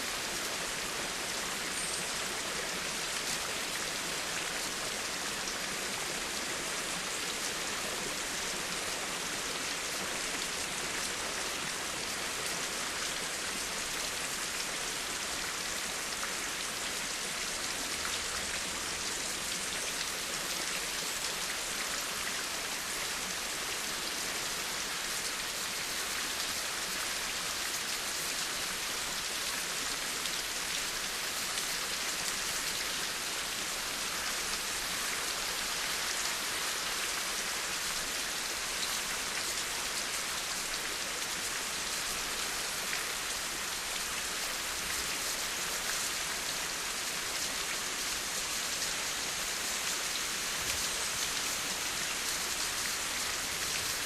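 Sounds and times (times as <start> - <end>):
dense rainfall hiss: 0.0 - 54.0.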